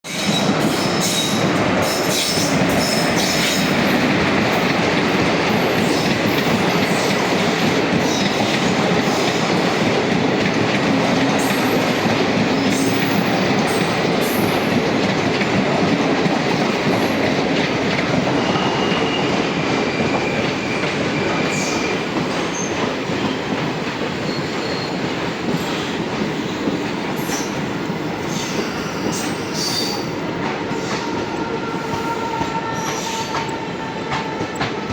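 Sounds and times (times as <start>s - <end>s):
train wheels rumbling on rail: 0.0s - 34.9s
rail joint clicks: 0.1s - 34.9s.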